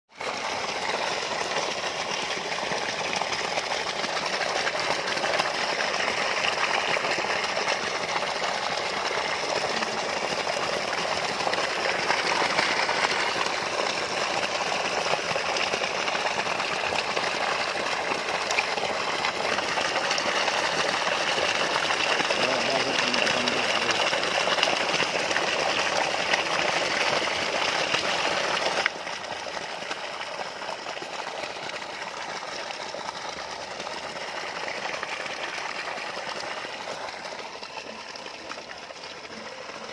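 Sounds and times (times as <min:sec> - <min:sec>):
water churning and splashing: 0:00.1 - 0:39.9.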